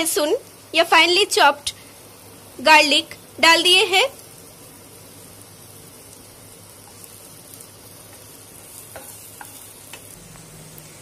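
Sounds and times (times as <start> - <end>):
onion and garlic sizzling in butter: 0.0 - 11.0.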